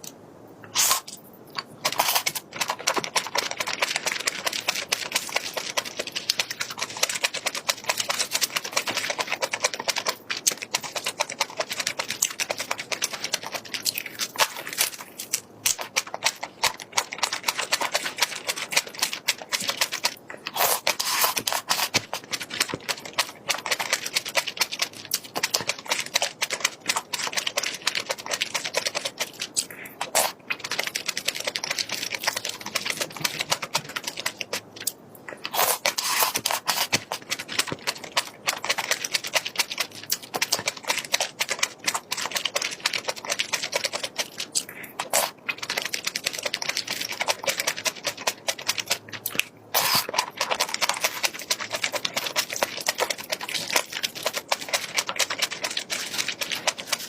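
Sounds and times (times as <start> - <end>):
crunchy chewing: 0.6 - 57.0.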